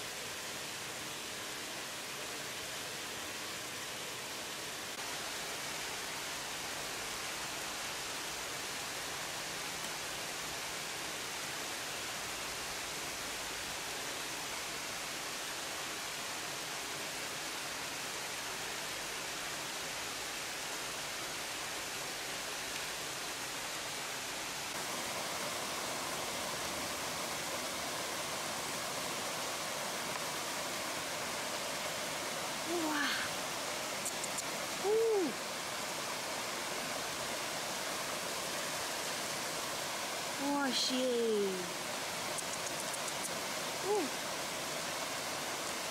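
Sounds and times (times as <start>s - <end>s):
waterfall and stream rushing: 0.0s - 45.9s.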